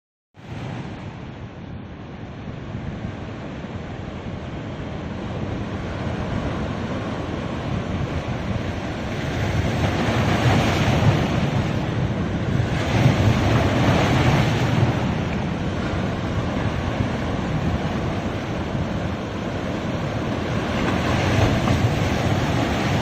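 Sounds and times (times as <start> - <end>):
sea waves breaking on beach: 2.5 - 23.0.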